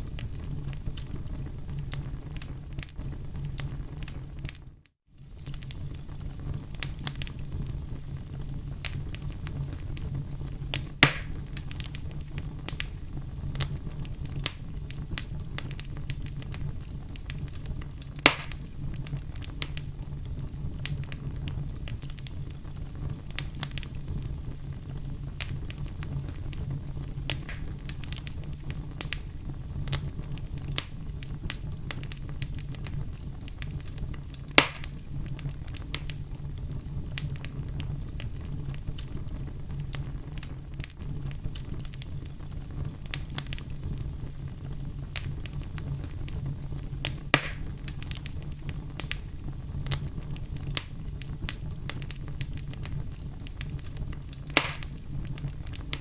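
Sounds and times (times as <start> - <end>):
loud fire pops: 0.0 - 56.0
wood fire crackling in fireplace: 0.0 - 56.0.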